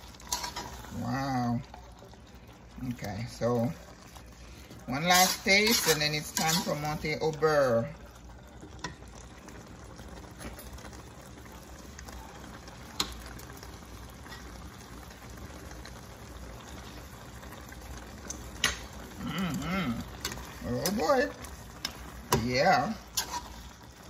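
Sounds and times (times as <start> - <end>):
stew bubbling in a pot: 0.0 - 24.0.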